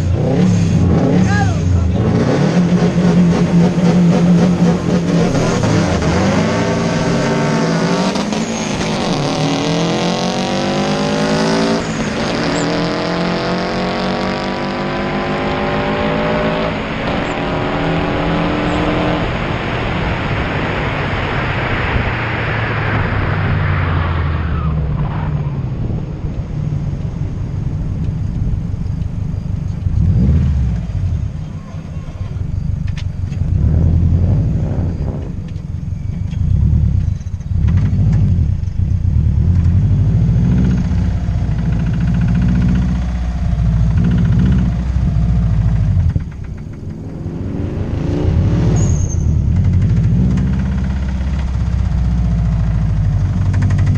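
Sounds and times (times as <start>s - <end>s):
car engine accelerating hard: 0.0s - 53.9s
road and wind noise: 0.0s - 53.9s.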